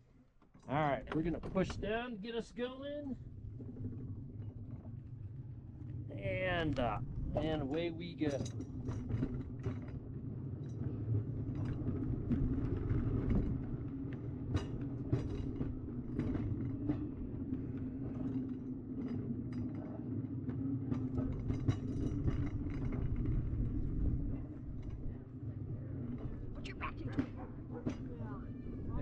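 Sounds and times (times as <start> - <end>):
hand car rolling on rails: 1.1 - 29.0.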